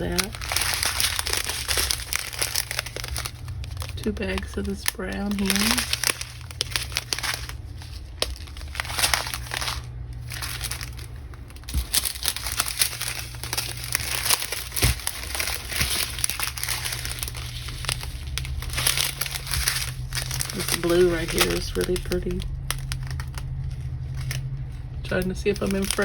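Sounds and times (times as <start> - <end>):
plastic bags crinkling: 0.0 - 26.0
steady low hum: 0.0 - 26.0.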